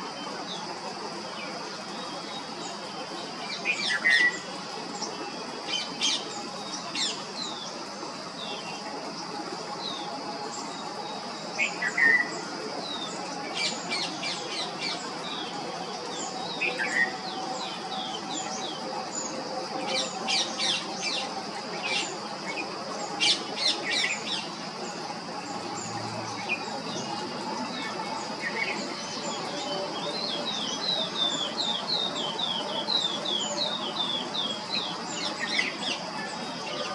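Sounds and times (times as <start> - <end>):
steady high-pitched hum: 0.0 - 36.9.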